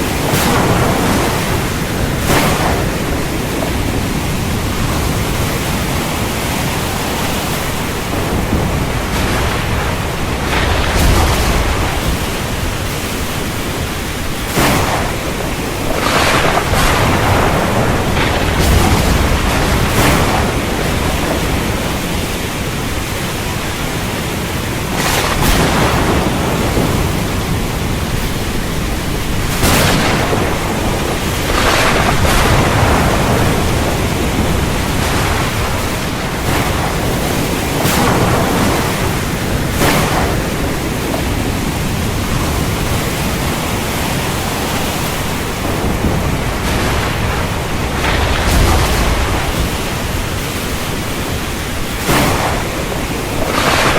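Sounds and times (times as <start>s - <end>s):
heavy rain: 0.0s - 53.9s
sharp thunder cracks: 0.0s - 53.9s
thunder rumbling: 0.0s - 53.9s.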